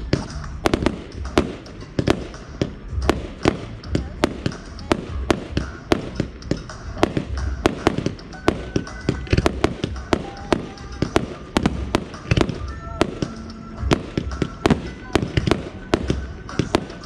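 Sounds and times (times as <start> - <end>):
deep firework thumps: 0.0 - 17.0
fireworks cracking and banging: 0.0 - 17.0.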